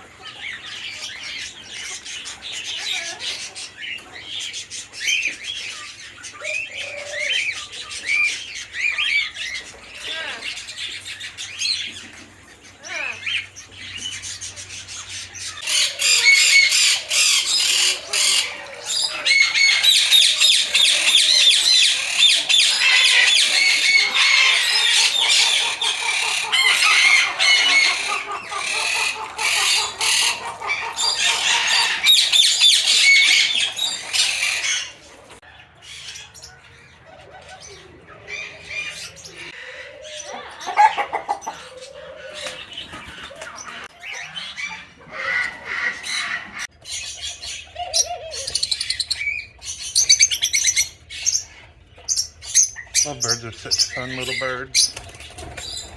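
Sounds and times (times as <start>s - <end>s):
birds chattering shrilly: 0.0s - 55.9s.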